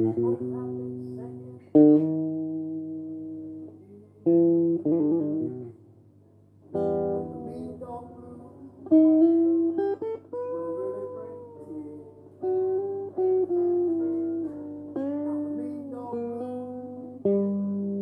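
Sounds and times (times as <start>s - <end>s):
electric guitar notes with bends: 0.0s - 5.8s, 6.7s - 18.0s.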